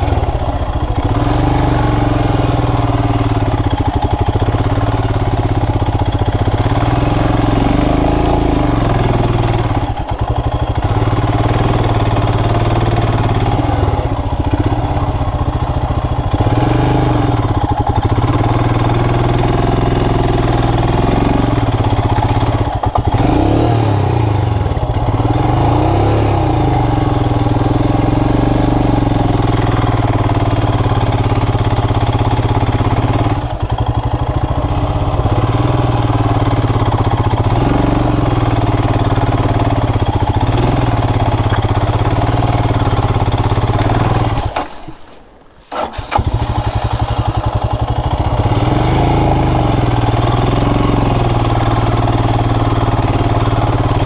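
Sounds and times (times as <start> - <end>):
motorcycle engine running: 0.0 - 44.7, 45.7 - 54.0.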